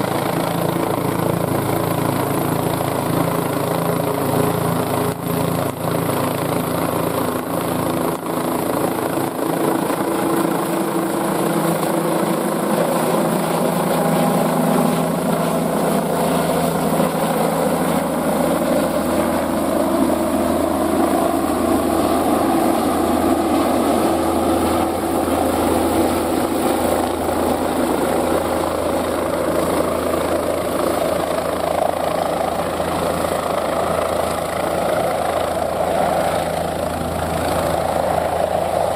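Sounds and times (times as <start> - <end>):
helicopter rotor drone: 0.0 - 38.9
helicopter turbine whine: 0.0 - 38.9.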